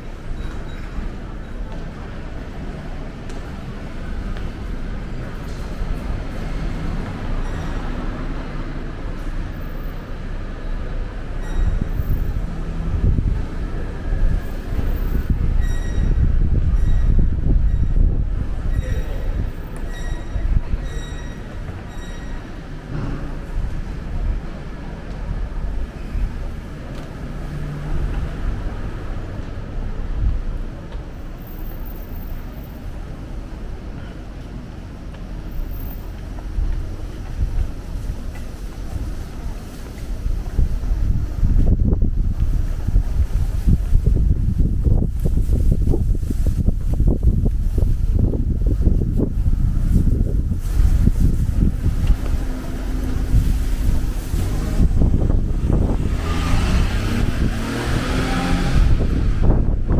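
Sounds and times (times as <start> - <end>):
wind buffeting microphone: 0.0 - 31.4, 32.5 - 59.9
city street hiss: 0.0 - 59.9.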